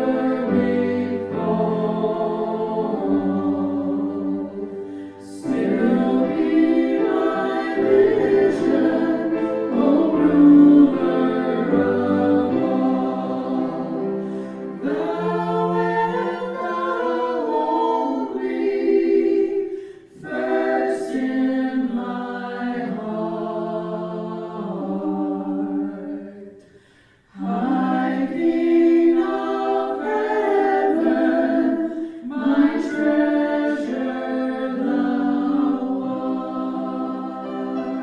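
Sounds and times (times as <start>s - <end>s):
choir singing a hymn: 0.0s - 38.0s.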